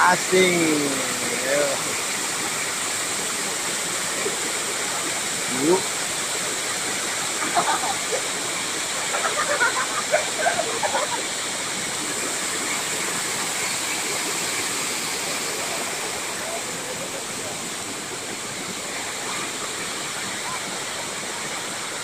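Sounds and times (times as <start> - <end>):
small waterfall pouring: 0.0 - 22.0.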